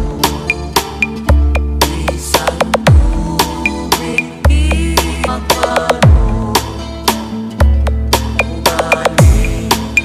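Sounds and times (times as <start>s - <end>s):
electronic dance track: 0.0s - 10.0s.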